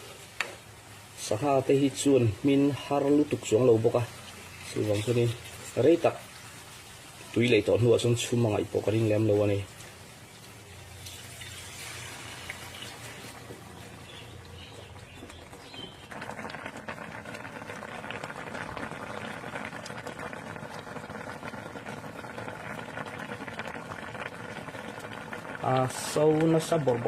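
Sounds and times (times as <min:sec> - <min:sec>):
running water bubbling: 0:01.5 - 0:27.0.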